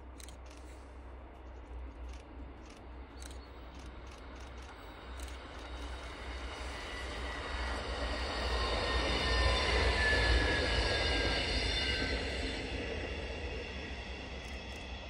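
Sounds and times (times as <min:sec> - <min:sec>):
diesel train passing by: 0:00.0 - 0:15.0.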